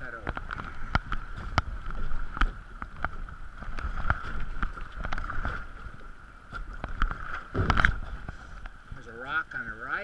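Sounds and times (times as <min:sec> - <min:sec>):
wind rumble on microphone: 0:00.0 - 0:09.1
running water: 0:00.0 - 0:10.0
paddle splashing and dripping: 0:00.2 - 0:09.7.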